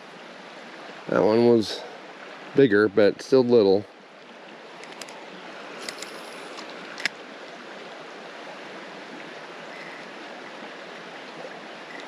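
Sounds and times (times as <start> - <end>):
creek flowing: 0.0 - 12.0.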